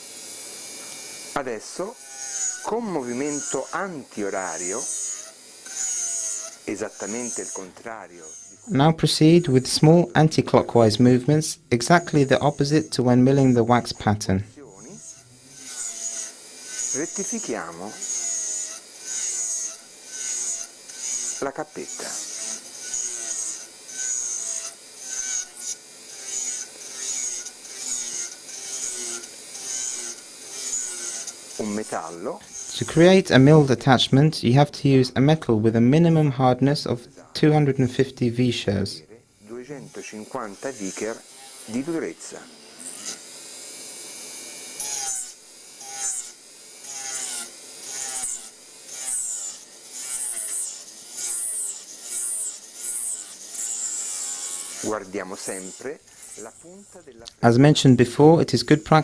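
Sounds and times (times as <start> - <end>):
cutter grinding metal: 0.0 - 59.0.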